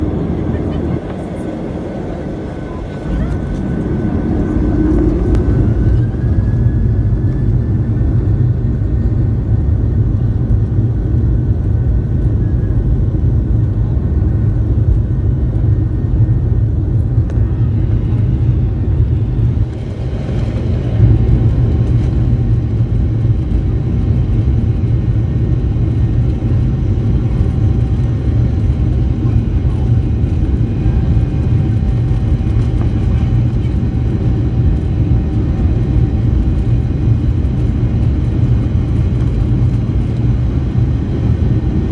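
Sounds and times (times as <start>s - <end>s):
jet engines at takeoff power: 0.0s - 41.9s.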